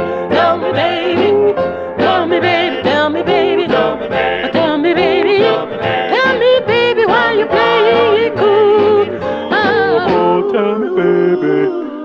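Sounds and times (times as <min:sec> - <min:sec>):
rhythm and blues vocal group singing: 0:00.0 - 0:12.0
bass line: 0:00.5 - 0:12.0.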